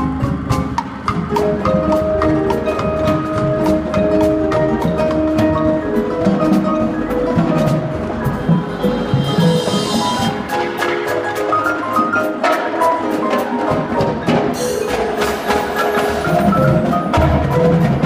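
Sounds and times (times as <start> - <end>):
marimba and vibraphone chords: 0.0 - 12.8, 14.5 - 18.0
sharp drum and stick strikes: 0.0 - 18.0.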